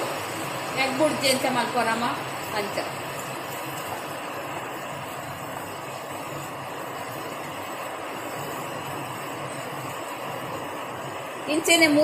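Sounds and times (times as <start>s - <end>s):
stir-fry sizzling in a pan: 0.0s - 12.0s.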